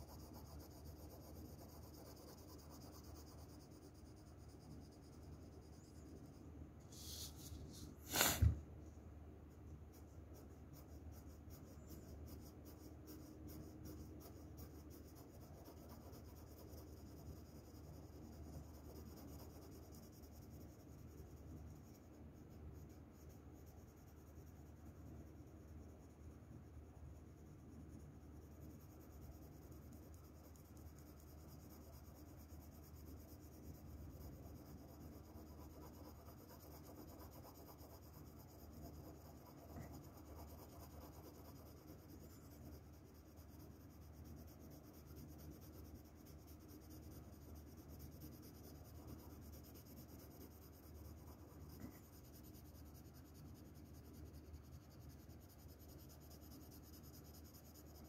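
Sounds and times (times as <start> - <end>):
pencil scratching on paper: 0.0 - 8.6, 9.6 - 24.1, 28.6 - 58.0.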